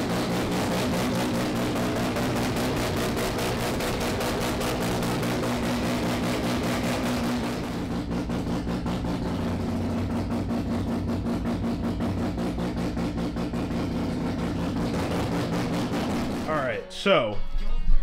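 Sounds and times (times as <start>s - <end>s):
rotary engine idling: 0.0s - 16.6s.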